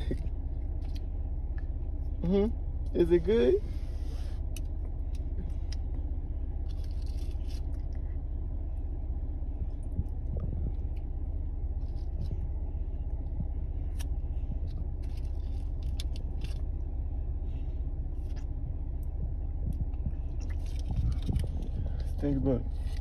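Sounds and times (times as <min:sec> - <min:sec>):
low rumble inside a car: 0:00.0 - 0:23.0.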